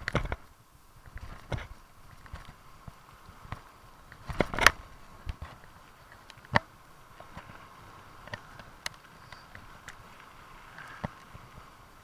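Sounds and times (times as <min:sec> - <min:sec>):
mountain bike rattling: 0:00.0 - 0:12.0
steady rushing hiss: 0:00.0 - 0:12.0.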